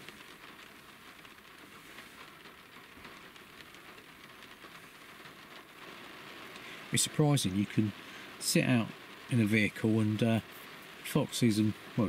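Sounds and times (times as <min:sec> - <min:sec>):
rain pattering on vehicle roof: 0:00.0 - 0:12.0.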